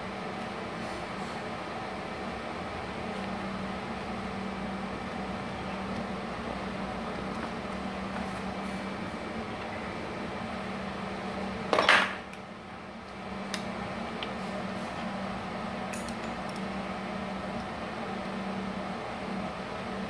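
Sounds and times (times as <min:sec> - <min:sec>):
welding machine hum: 0:00.0 - 0:20.0.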